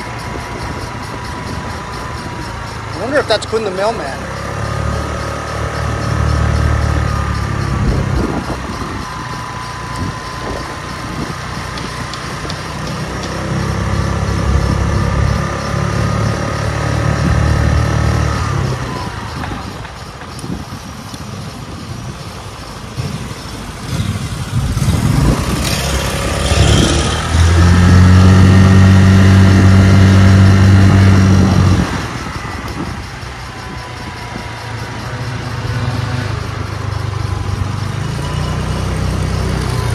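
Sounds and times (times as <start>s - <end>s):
motor scooter engine running: 0.0s - 39.9s.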